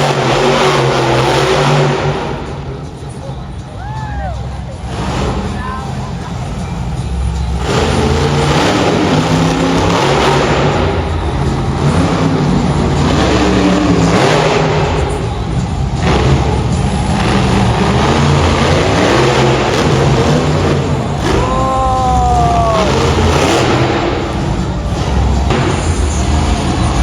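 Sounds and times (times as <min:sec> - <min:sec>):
truck engine revving: 0:00.0 - 0:03.8, 0:04.4 - 0:27.0.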